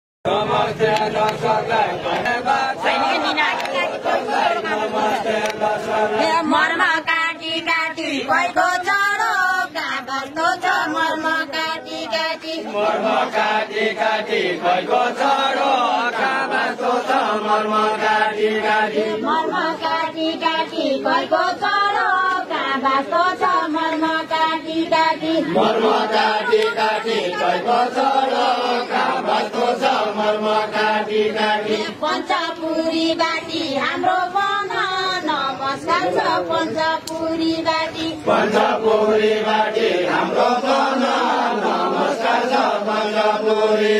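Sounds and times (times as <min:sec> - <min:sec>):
group singing folk song in chorus: 0:00.3 - 0:43.9.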